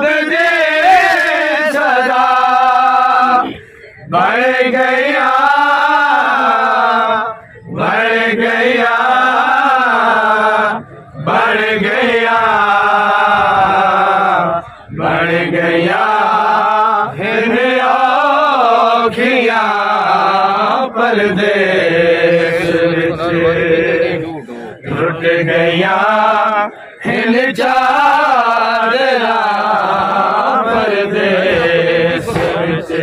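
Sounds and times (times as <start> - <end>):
men chanting a lament: 0.0 - 33.0.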